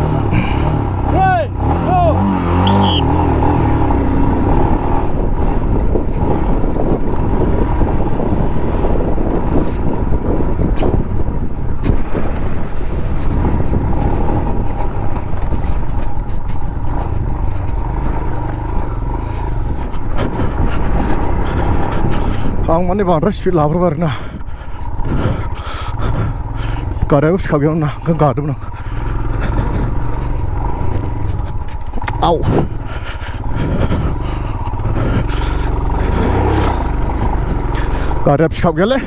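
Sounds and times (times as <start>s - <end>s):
wind noise on microphone: 0.0s - 38.7s
motorcycle engine running: 0.0s - 39.0s.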